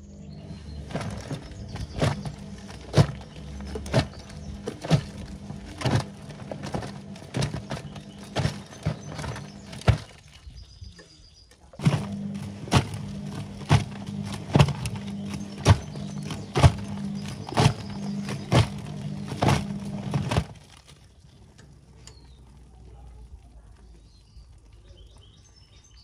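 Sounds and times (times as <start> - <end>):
washing machine motor hum: 0.0 - 10.6, 11.8 - 25.4
wet laundry slapping in drum: 0.8 - 10.4, 11.8 - 24.0.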